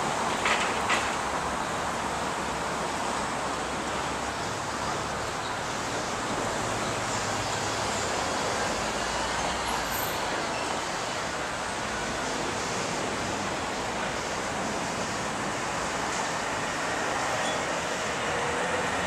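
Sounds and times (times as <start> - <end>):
traffic hiss: 0.0 - 19.0.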